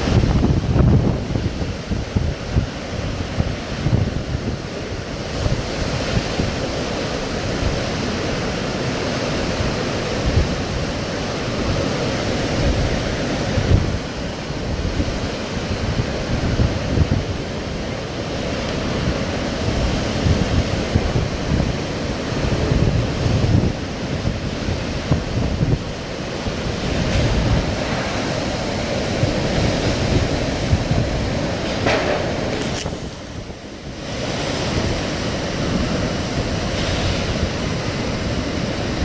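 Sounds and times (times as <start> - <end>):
rain: 0.0 - 39.0
roar of wind: 0.0 - 39.0
wind buffeting microphone: 0.0 - 39.0.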